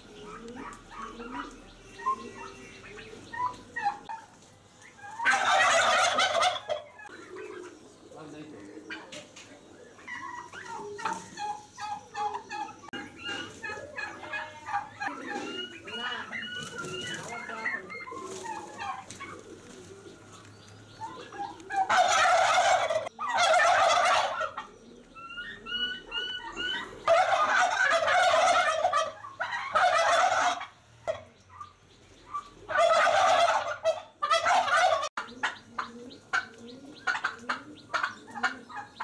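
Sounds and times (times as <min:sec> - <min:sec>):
turkeys gobbling: 0:00.0 - 0:39.0.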